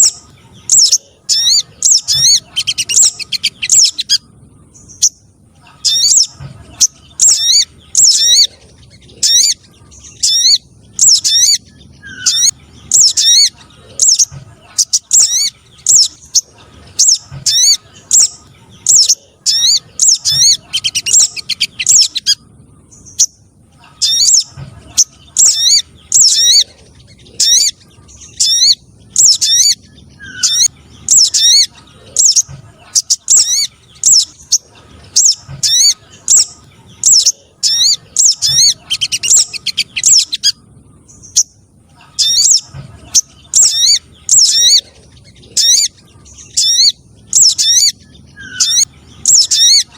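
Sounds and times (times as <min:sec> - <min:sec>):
sharp high bird chirps: 0:00.0 - 0:49.9.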